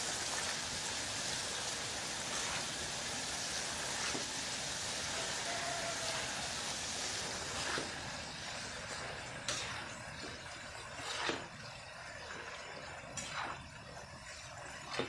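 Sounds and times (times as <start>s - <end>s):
food frying in hot oil: 0.0s - 15.0s.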